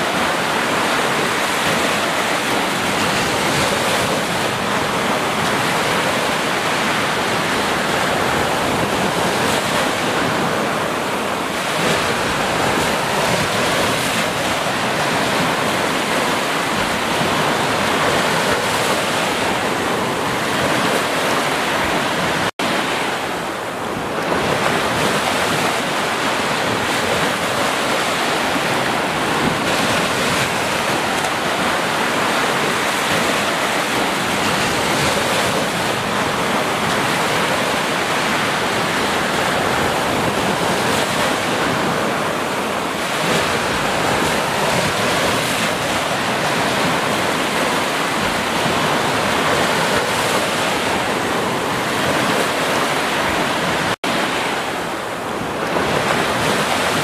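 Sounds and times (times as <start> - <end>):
small waves breaking on sand: 0.0 - 57.0.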